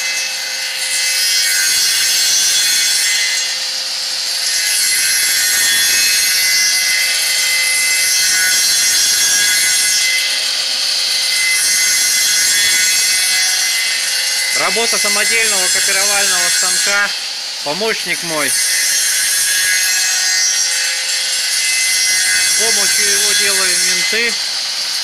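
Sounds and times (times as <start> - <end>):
high-pitched cutter disc cutting wood: 0.0 - 25.0.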